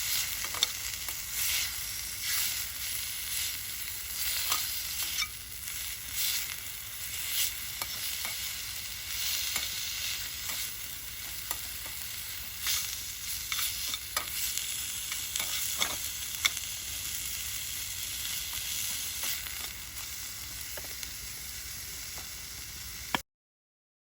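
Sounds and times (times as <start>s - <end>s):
food sizzling in a pan: 0.0s - 23.2s
sharp pops of frying: 0.0s - 23.2s.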